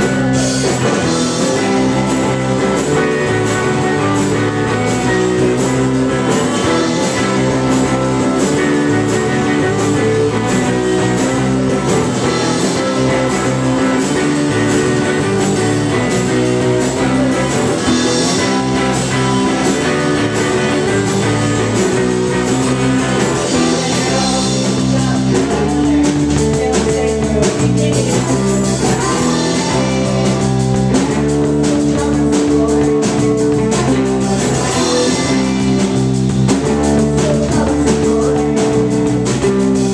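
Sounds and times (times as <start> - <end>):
drum kit: 0.0 - 39.9
electric bass: 0.0 - 39.9
electric guitar: 0.0 - 39.9
person singing: 0.0 - 39.9.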